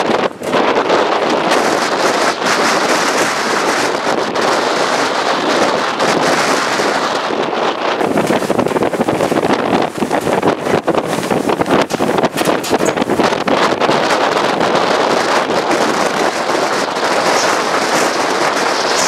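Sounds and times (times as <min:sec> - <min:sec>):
wind blasting on microphone: 0:00.0 - 0:19.0.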